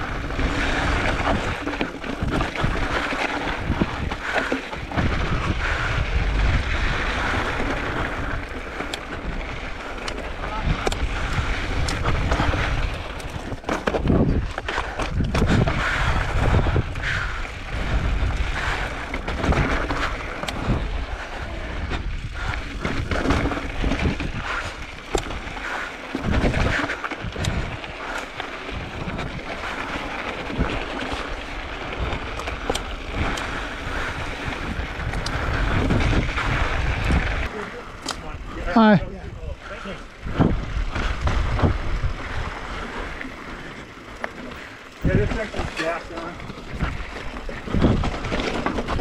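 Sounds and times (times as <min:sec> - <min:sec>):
bike knocking and rattling: 0:00.0 - 0:49.0
tyres rolling over dirt and stones: 0:00.0 - 0:49.0
wind buffeting microphone: 0:00.0 - 0:49.0.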